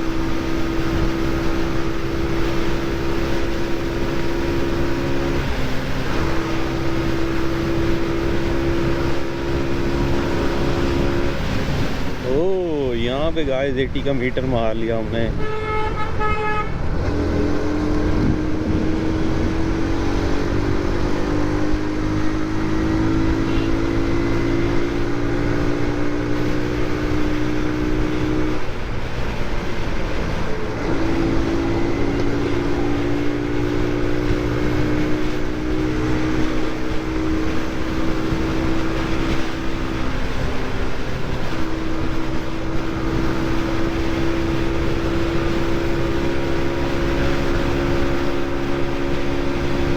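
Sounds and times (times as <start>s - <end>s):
motorcycle engine running: 0.0s - 49.9s
wind rush on microphone: 0.0s - 49.9s.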